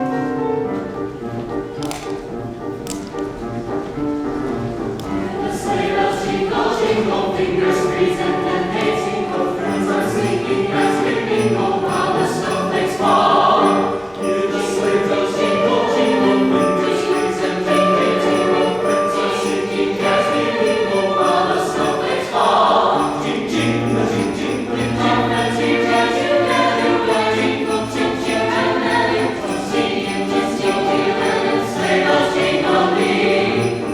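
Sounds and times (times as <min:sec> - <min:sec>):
choir singing sustained chords: 0:00.0 - 0:33.9
sleigh bells jingling: 0:05.1 - 0:33.9.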